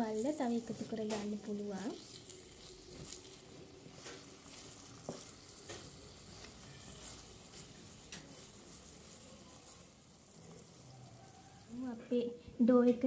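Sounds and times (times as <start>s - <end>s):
sausages sizzling in a pan: 0.0s - 12.5s
wooden spatula scraping a pan: 0.6s - 11.8s.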